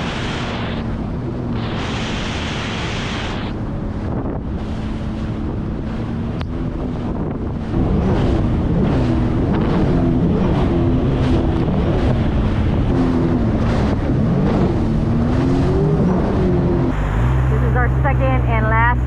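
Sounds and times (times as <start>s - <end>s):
jet ski engine running: 0.0s - 19.0s
water rushing: 0.0s - 19.0s
wind buffeting microphone: 0.0s - 19.0s.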